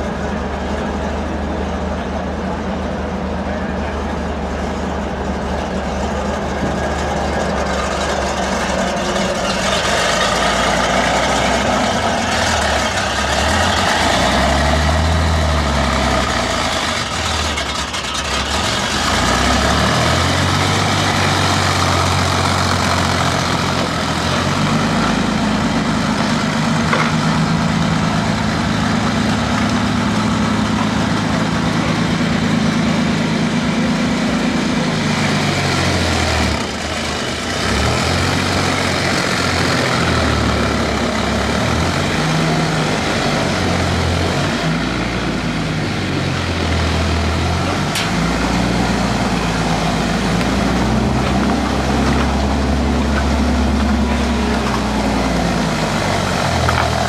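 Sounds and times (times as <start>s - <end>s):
tracked vehicle engine revving: 0.0s - 57.0s.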